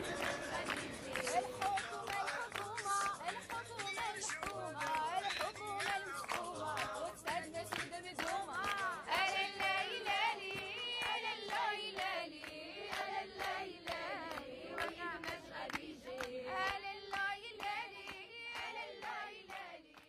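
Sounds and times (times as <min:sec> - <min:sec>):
hand clapping: 0:00.0 - 0:20.0
voices singing together: 0:00.0 - 0:20.0.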